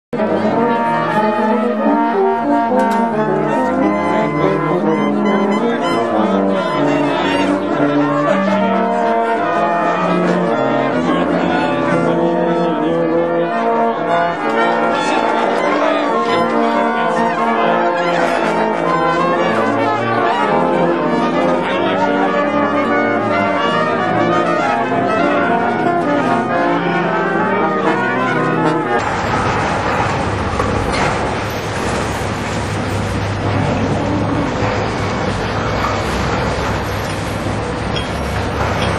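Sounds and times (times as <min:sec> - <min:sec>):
brass chords: 0:00.1 - 0:38.9.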